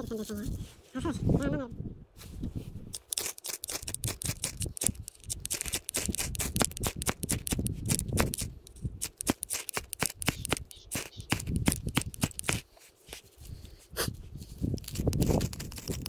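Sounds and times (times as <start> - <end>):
knife shaving wood: 3.0 - 16.0.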